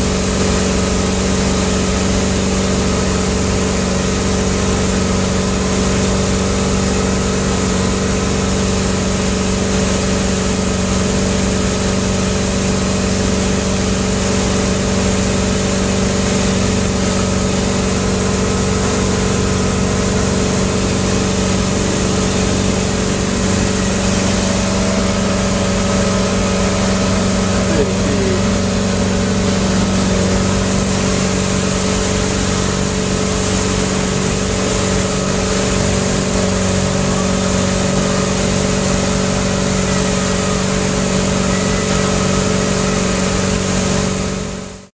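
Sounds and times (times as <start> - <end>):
churning wake: 0.0 - 44.9
motorboat engine running: 0.0 - 44.9.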